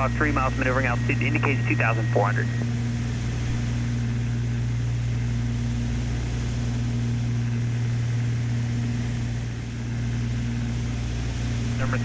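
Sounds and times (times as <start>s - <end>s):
propeller engines droning in cabin: 0.0s - 12.0s.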